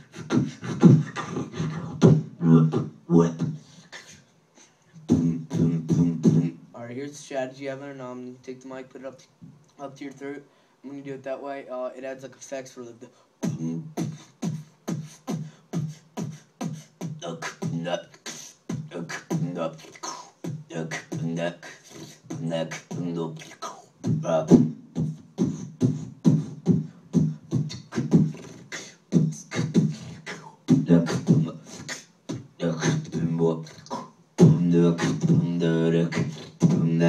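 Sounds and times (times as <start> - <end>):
beatboxing into a microphone: 0.0 - 6.8, 13.1 - 37.0.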